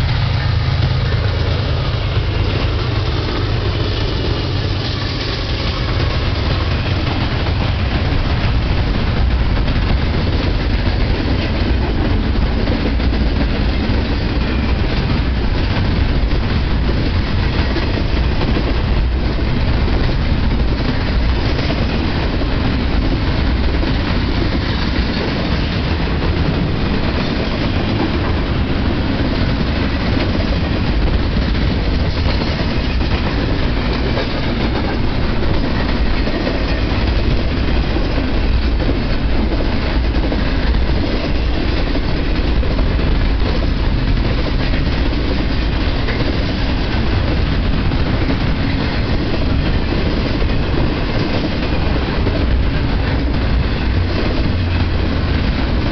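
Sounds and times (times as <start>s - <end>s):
freight train wheels rumbling on rail: 0.0s - 55.9s.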